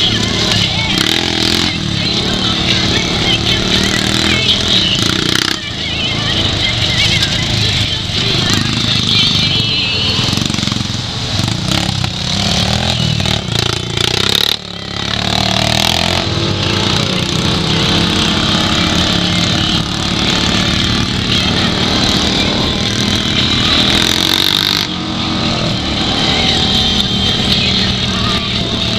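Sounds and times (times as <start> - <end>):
vehicle engine running: 0.0 - 28.9.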